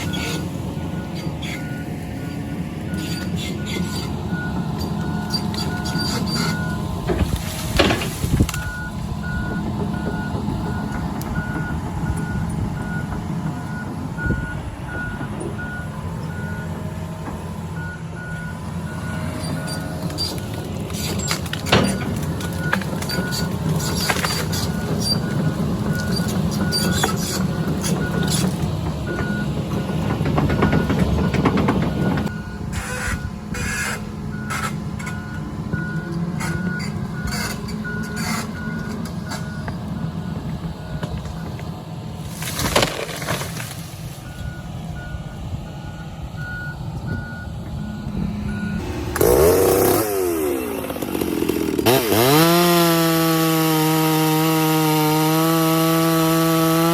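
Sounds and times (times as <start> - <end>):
excavator engine running: 0.0 - 53.4.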